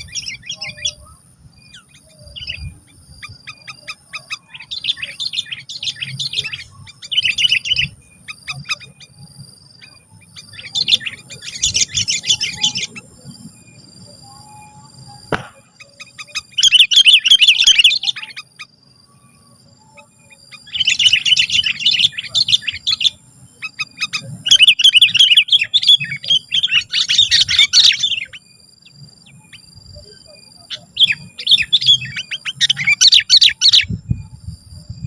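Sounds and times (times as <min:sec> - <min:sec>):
bulbul chattering song: 0:00.0 - 0:35.0.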